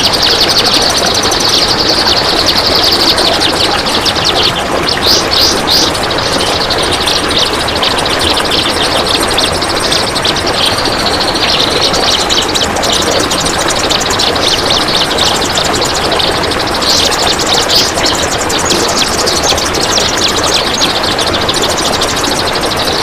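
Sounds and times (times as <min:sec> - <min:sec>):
bird singing rapid chattering notes: 0:00.0 - 0:23.0.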